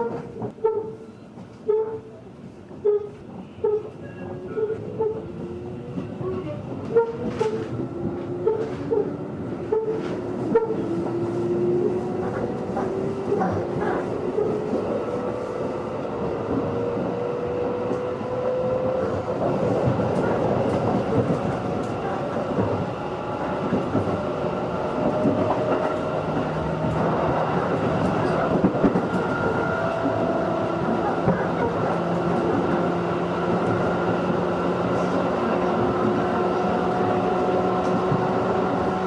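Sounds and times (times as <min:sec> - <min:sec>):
rail clicks: 0:00.0 - 0:39.0
train running noise: 0:00.0 - 0:39.0.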